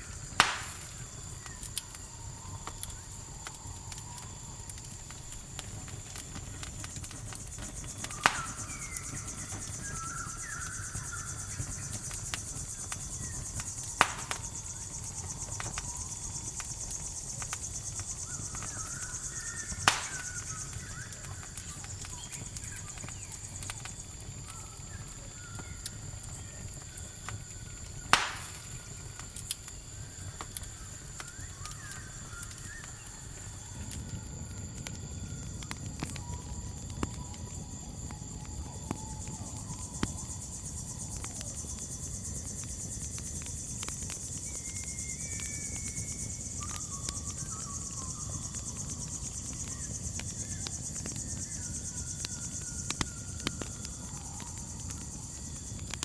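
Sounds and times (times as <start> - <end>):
campfire crackling and popping: 0.0 - 56.0
crickets chirring: 0.0 - 56.0.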